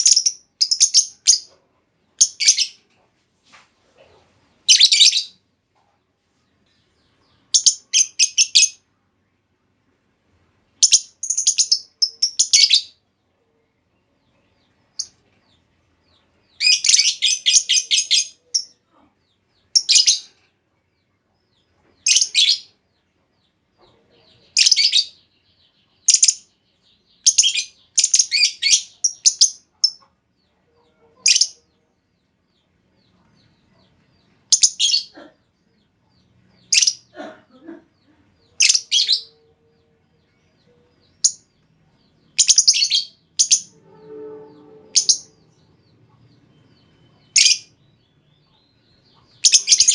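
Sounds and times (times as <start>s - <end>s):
lovebird chirping: 0.0s - 1.6s, 2.2s - 2.8s, 4.6s - 5.4s, 6.6s - 8.8s, 10.8s - 13.0s, 14.2s - 20.4s, 21.4s - 22.8s, 23.8s - 30.2s, 30.8s - 31.9s, 32.5s - 49.9s.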